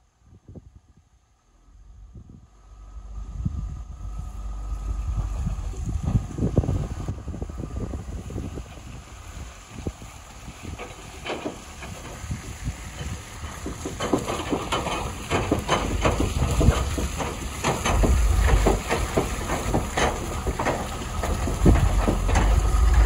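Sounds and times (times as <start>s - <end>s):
truck engine running: 1.4s - 23.0s.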